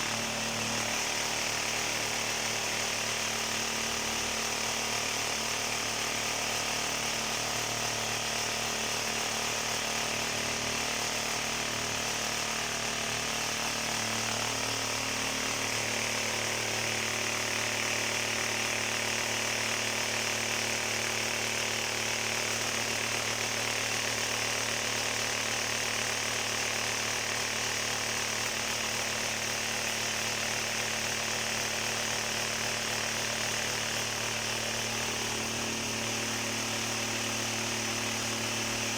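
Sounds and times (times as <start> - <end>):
power tool running: 0.0 - 38.9.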